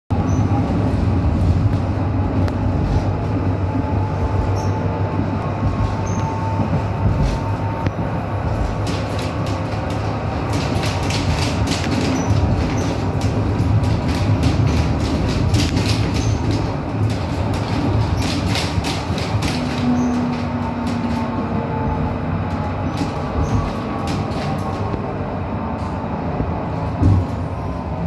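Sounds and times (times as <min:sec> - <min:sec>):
tram wheels rumbling on rails: 0:00.1 - 0:28.0.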